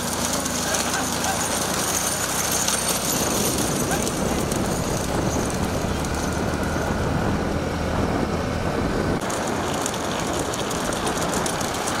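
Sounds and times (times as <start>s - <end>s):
vehicle rumbling and rattling: 0.0s - 12.0s.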